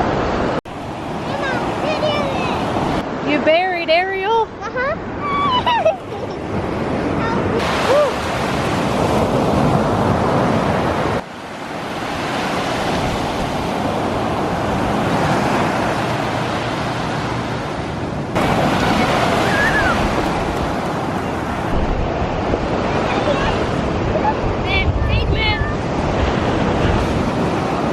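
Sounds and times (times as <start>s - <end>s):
ocean surf washing onto beach: 0.0s - 3.7s, 4.7s - 27.9s
wind on microphone: 5.0s - 27.9s.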